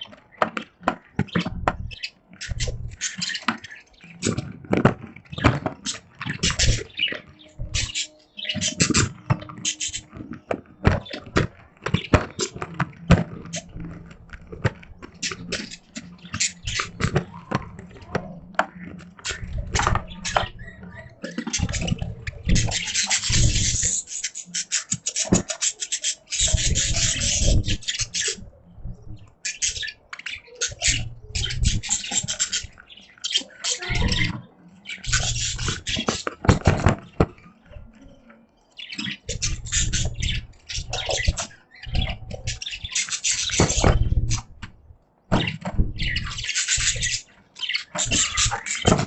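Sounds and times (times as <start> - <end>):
budgies chattering: 0.0 - 49.0.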